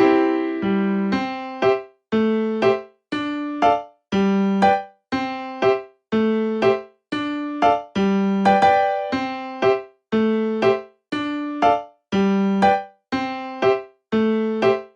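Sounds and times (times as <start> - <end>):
light piano tune: 0.0 - 14.9.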